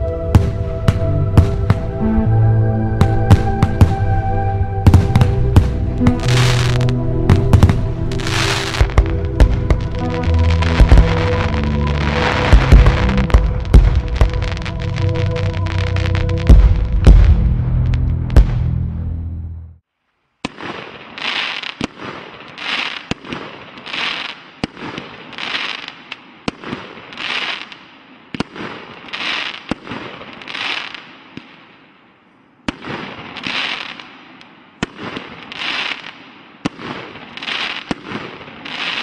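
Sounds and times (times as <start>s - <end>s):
fireworks reports and crackle: 4.8s - 18.8s, 20.4s - 32.0s, 32.6s - 39.0s.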